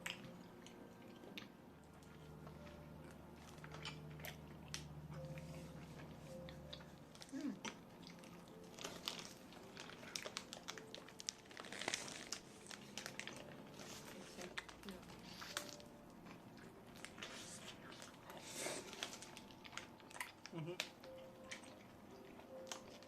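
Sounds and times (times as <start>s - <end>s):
crunchy food chewing: 0.0s - 23.0s.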